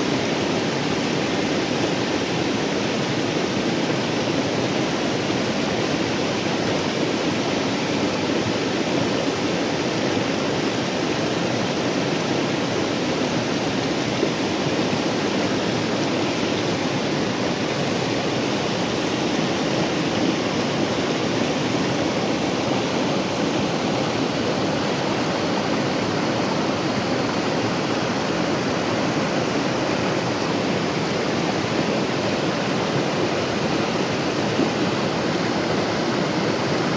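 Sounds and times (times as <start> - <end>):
water rushing over rocks: 0.0 - 36.9.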